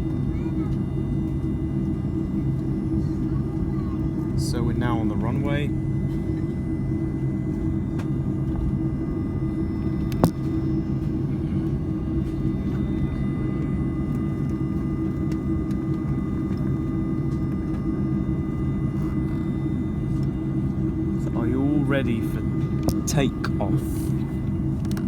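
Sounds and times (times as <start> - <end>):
airplane cabin engine rumble: 0.0 - 25.0
thin engine whine: 4.4 - 25.0.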